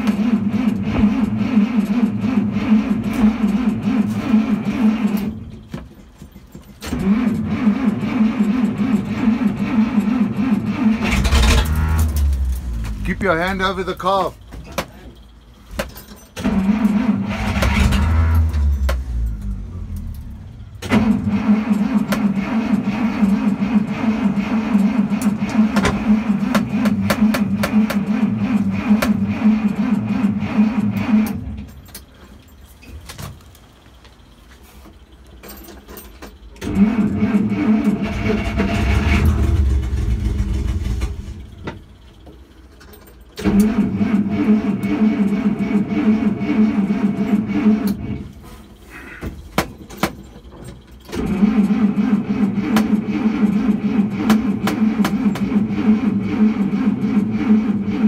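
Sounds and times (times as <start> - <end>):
truck engine cranking on starter: 0.0 - 58.0.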